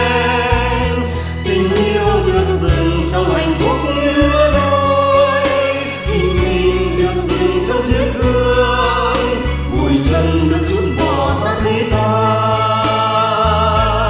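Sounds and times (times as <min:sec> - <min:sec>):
slow song with steady beat: 0:00.0 - 0:14.0.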